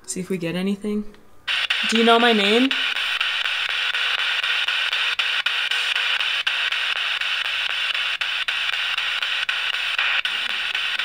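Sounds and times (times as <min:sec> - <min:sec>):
radio static hiss: 0:01.5 - 0:11.0.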